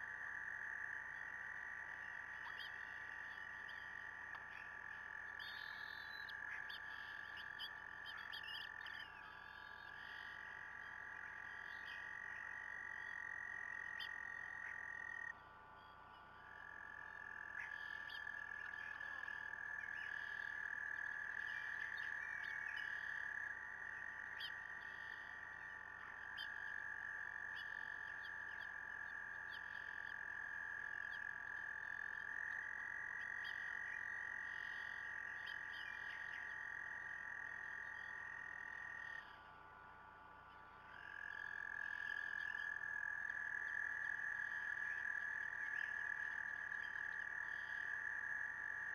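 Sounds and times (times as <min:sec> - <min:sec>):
frogs trilling: 0:00.0 - 0:48.9.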